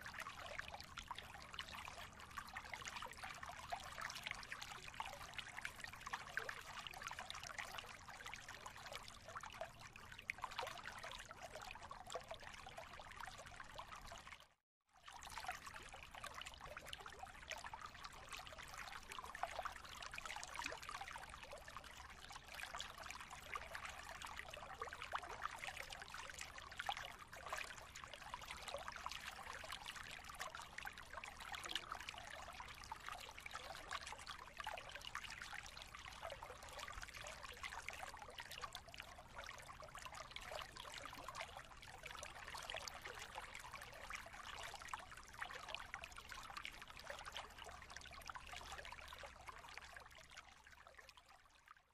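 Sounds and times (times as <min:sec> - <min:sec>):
trickling water: 0:00.0 - 0:51.9.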